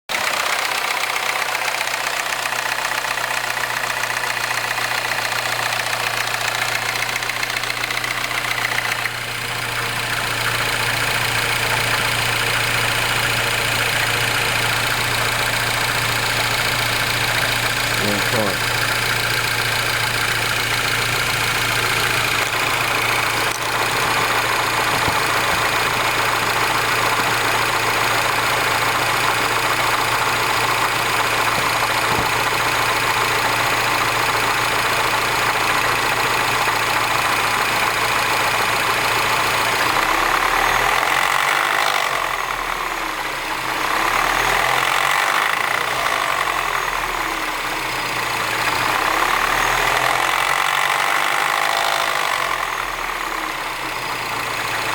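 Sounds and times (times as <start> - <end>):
car engine idling: 0.1 - 54.9
engine rattle: 0.1 - 54.9.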